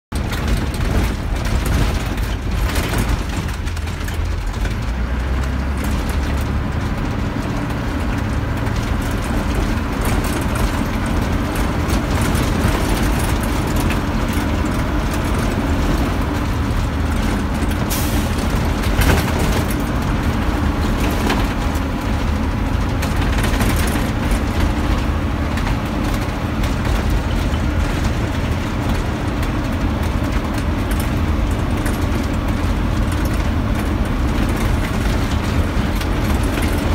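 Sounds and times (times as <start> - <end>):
knocks and rattles over bumps: 0.1 - 36.9
vehicle engine and road noise: 0.1 - 36.9.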